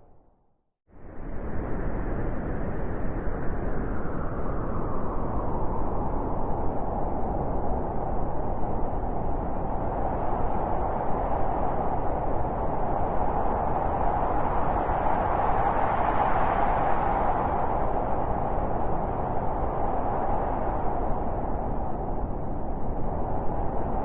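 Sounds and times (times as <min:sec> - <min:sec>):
steady rushing wind: 0:00.9 - 0:24.0.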